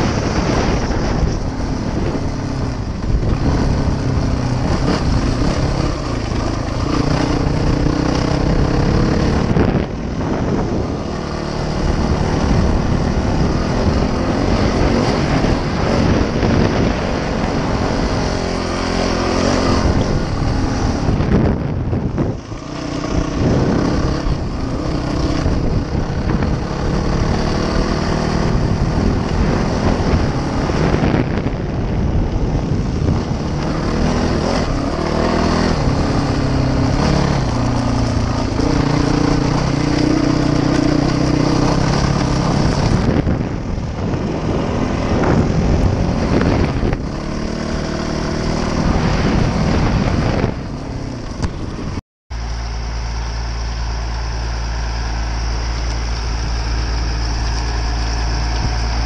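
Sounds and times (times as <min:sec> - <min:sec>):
dirt bike engine revving: 0:00.0 - 0:59.0
wind noise on microphone: 0:00.0 - 0:59.0.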